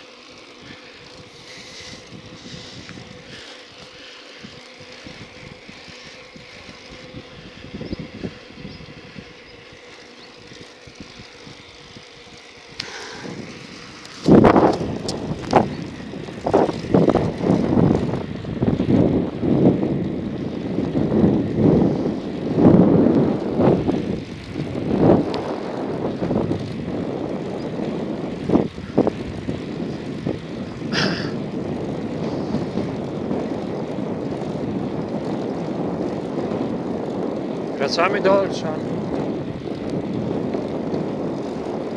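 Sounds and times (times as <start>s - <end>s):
wind buffeting microphone: 0.4s - 41.9s.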